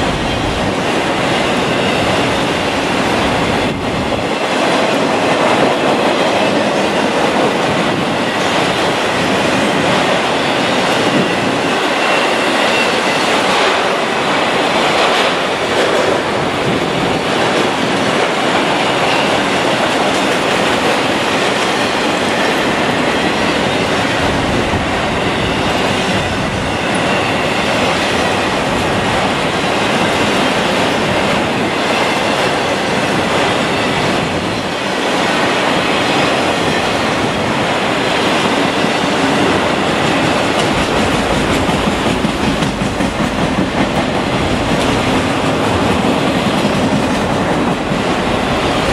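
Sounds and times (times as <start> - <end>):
train wheels on rail: 0.0 - 48.9.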